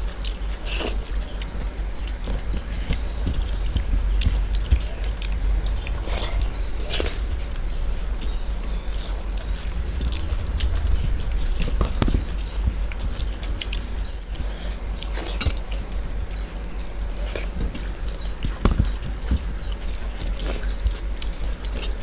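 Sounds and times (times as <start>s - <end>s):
chewing and lip-smacking: 0.0s - 22.0s
fingers mixing rice on steel plates: 0.0s - 22.0s
steady low hum: 0.0s - 22.0s.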